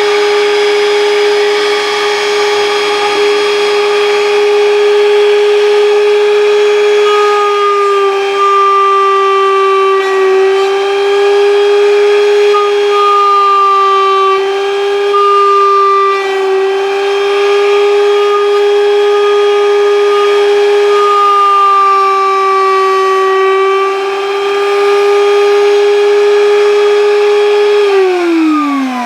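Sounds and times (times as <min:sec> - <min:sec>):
router cutter high whine: 0:00.0 - 0:29.0.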